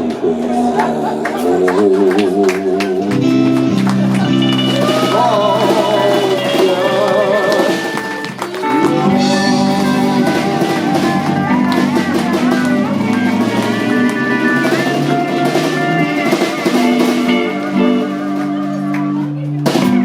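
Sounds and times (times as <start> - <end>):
country band playing: 0.0 - 20.0.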